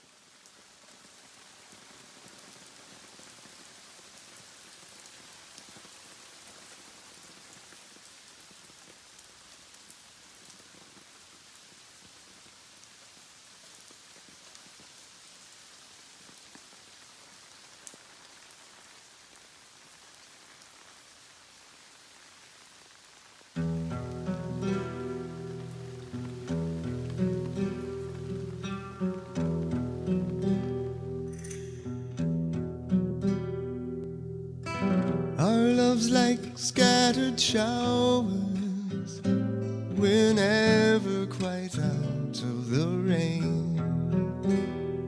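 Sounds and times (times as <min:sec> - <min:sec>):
rain hiss: 0:00.0 - 0:32.2, 0:35.2 - 0:45.0.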